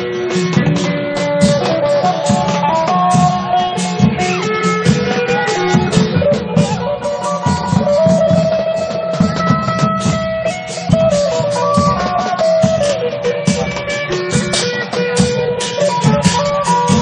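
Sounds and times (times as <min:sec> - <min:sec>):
long drum beats: 0:00.0 - 0:17.0
plucked electric lute melody: 0:00.0 - 0:17.0.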